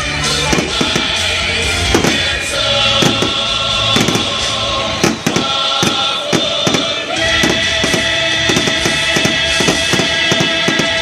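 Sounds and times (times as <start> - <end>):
loud music with held notes: 0.0 - 11.0
fireworks bangs and cracks: 0.2 - 11.0.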